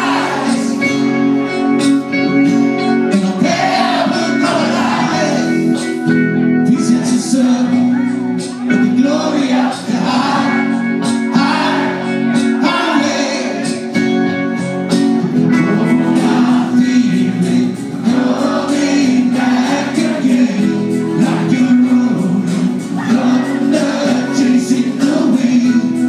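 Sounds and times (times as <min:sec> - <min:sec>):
person singing: 0:00.0 - 0:02.0, 0:02.8 - 0:14.2, 0:15.5 - 0:26.0
acoustic and electric guitars: 0:00.0 - 0:26.0.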